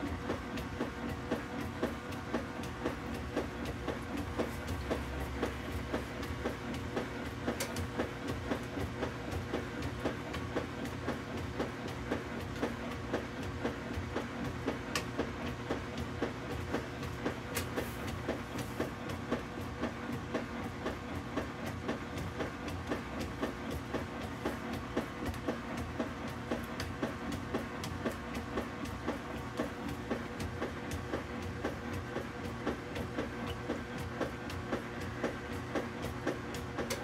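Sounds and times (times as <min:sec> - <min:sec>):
washing machine agitating: 0:00.0 - 0:37.0.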